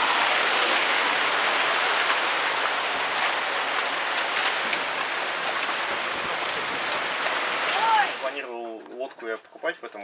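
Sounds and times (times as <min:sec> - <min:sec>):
rain falling: 0:00.0 - 0:08.6.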